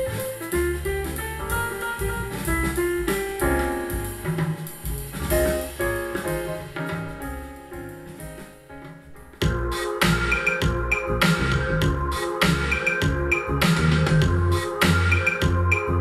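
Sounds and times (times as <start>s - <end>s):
jazz music through speakers: 0.0s - 16.0s.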